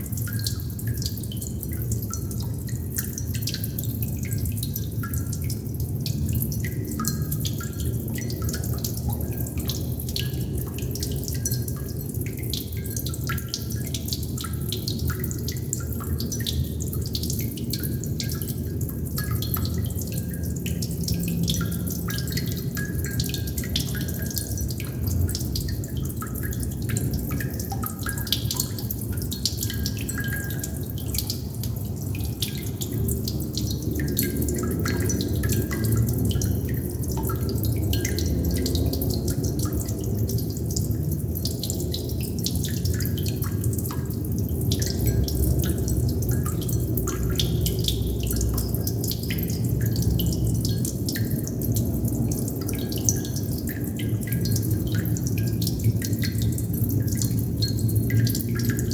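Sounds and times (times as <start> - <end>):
water droplets dripping: 0.0 - 58.9.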